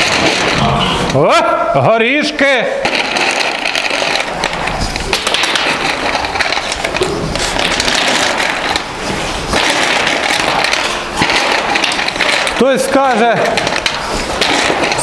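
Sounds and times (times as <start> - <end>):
pigs clattering in metal pens: 0.0 - 1.2, 2.8 - 15.0.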